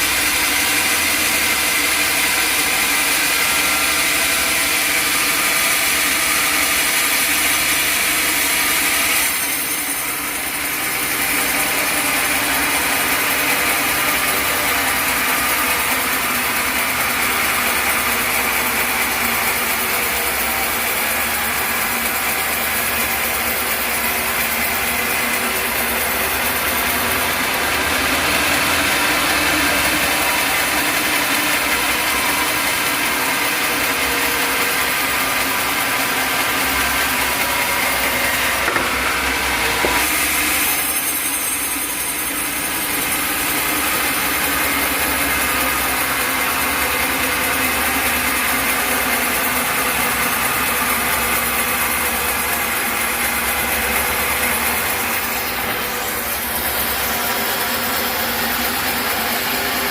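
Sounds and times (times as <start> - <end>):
sawmill saw humming and whirring: 0.0 - 59.9.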